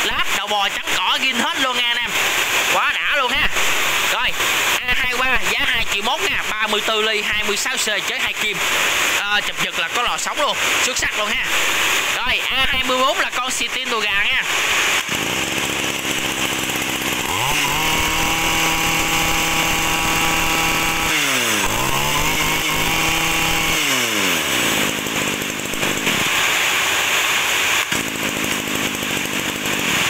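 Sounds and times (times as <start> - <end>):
brush cutter engine revving: 0.0 - 30.0.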